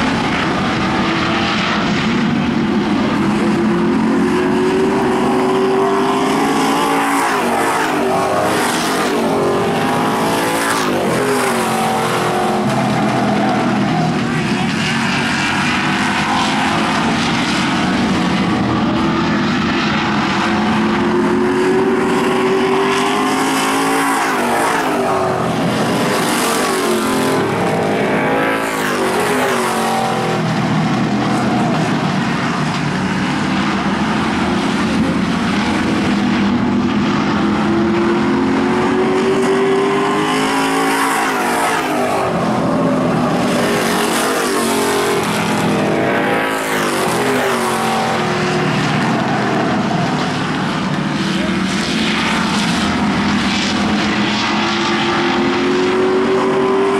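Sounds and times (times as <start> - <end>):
racing car engines revving: 0.0 - 56.9.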